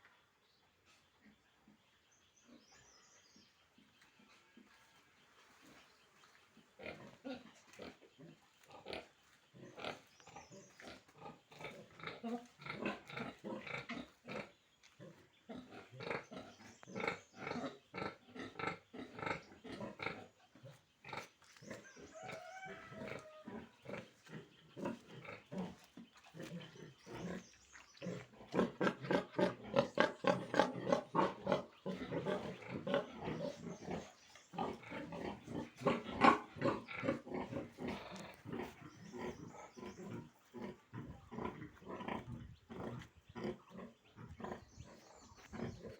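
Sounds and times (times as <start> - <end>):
pigs grunting: 6.8 - 45.9.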